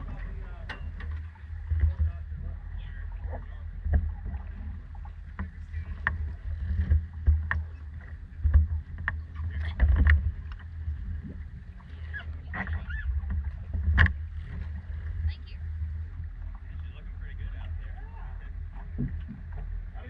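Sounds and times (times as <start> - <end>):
low rumble: 0.0 - 20.0
water lapping against boat hull: 0.0 - 20.0.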